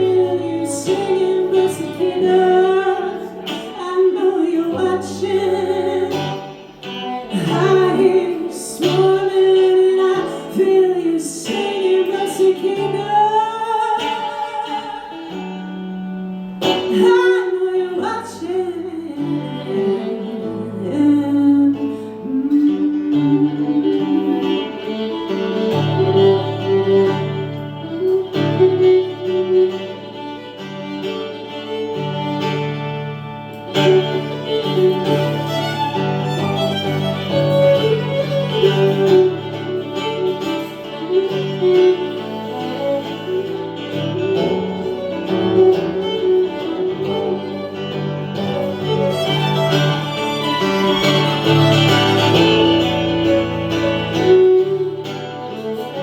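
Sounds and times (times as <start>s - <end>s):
guitar accompaniment: 0.0s - 56.0s
violin melody: 0.0s - 56.0s.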